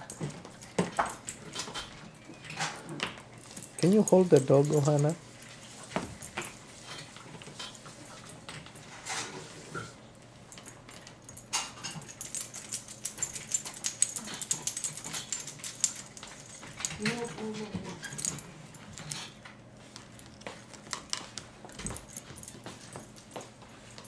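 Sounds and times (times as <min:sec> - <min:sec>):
leash metallic jingles and clicks: 0:00.0 - 0:08.9, 0:10.5 - 0:24.0.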